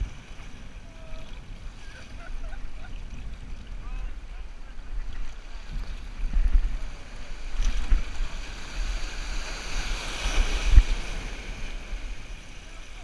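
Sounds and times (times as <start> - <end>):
ocean surf sloshing: 0.0 - 13.0
wind rumble on microphone: 0.0 - 13.0.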